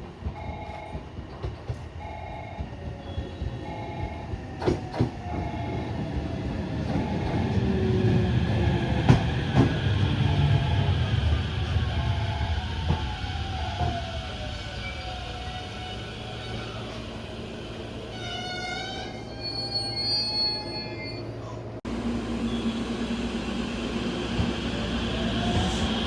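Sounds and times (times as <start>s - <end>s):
train passing: 0.2s - 18.2s, 21.9s - 26.0s.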